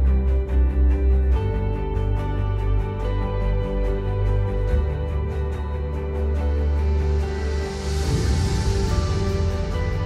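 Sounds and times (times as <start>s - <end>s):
background music with chords: 0.0s - 10.0s.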